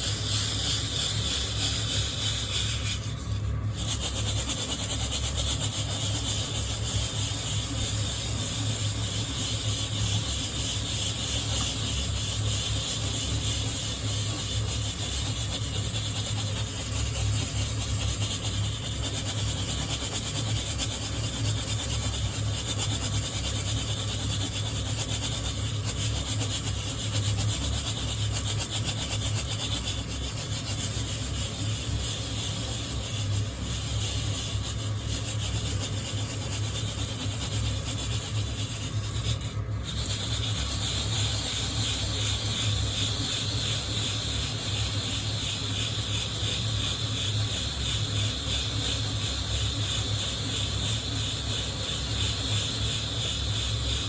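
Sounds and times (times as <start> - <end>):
coffee beans rasping in mesh: 0.0 - 54.0
steady low hum: 0.0 - 54.0.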